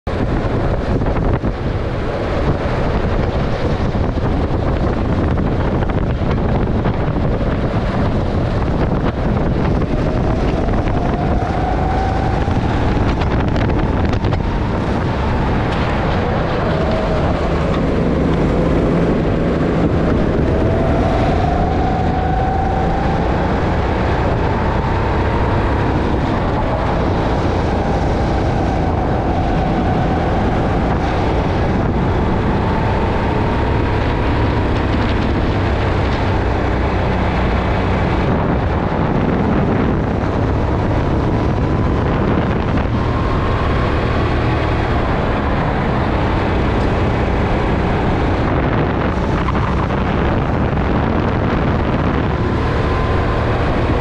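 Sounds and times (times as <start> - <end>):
wind buffeting microphone: 0.0 - 54.0
kart engine revving: 0.2 - 54.0.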